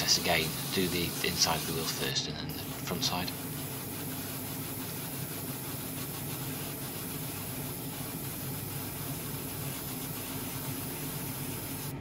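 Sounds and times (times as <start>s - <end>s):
spray hissing: 0.0s - 12.0s.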